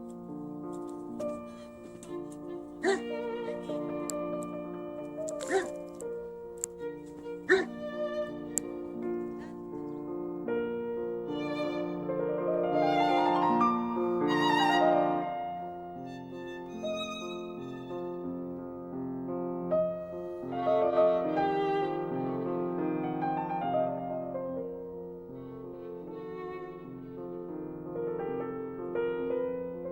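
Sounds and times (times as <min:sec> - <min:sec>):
violin melody: 0:00.0 - 0:18.9, 0:19.8 - 0:29.9
piano accompaniment: 0:00.0 - 0:29.9.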